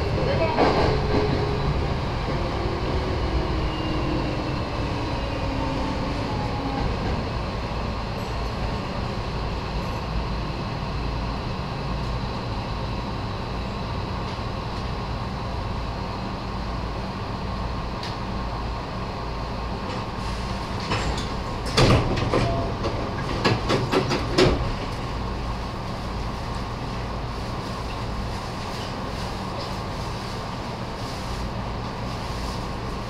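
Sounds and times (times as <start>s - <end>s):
train wheels rumbling: 0.0s - 15.1s, 19.7s - 33.0s.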